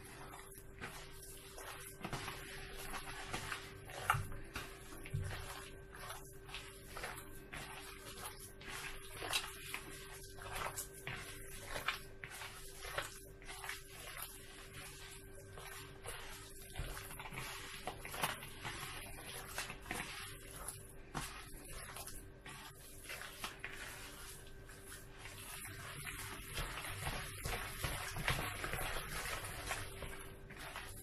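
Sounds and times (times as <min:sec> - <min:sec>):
hand squishing wet meat: 0:00.0 - 0:31.0.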